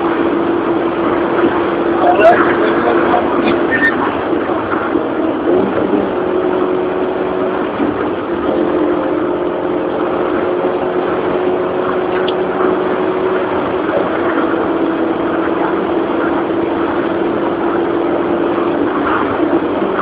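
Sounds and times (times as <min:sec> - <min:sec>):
car engine running: 0:00.0 - 0:20.0
road noise: 0:00.0 - 0:20.0.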